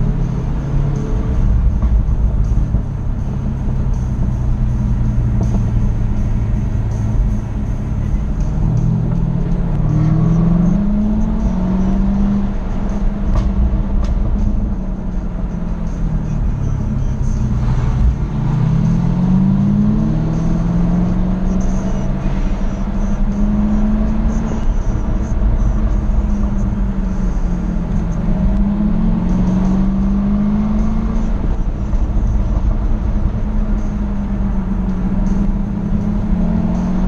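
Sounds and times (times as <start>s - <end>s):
car engine revving: 0.0s - 37.0s
road noise: 0.0s - 37.0s.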